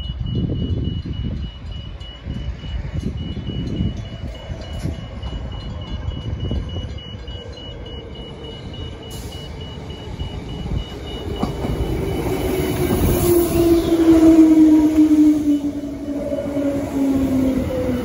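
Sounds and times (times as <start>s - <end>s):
level crossing warning bell beeping: 0.0s - 18.0s
train rumble: 0.0s - 18.0s.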